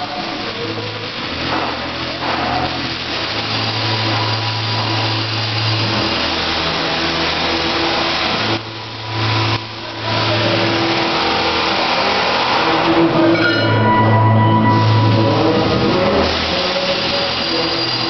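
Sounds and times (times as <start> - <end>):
low machine hum: 0.0 - 18.0
welding arc crackling hiss: 0.0 - 18.0.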